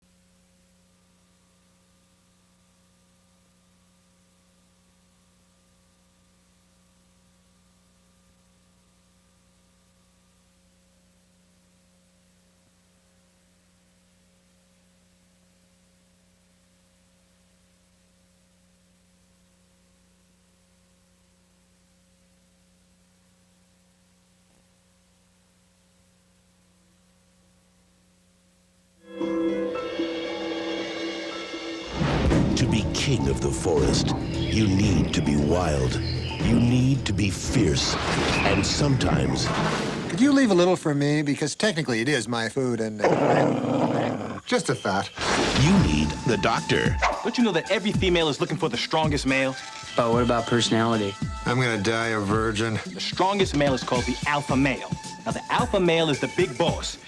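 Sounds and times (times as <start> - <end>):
faint electrical hum: 0.0 - 57.0
low tape hiss: 0.0 - 57.0.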